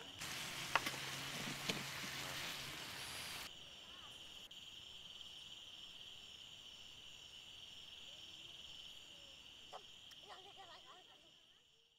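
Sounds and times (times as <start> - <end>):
crickets trilling: 0.0 - 11.9.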